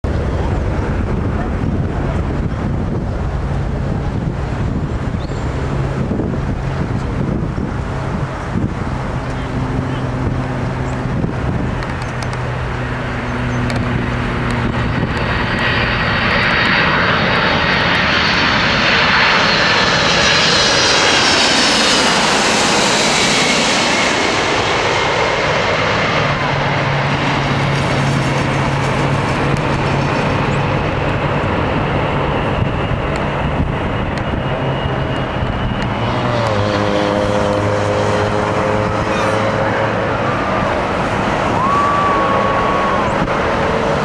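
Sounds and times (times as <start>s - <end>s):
jet engines passing with whine: 0.0s - 44.0s.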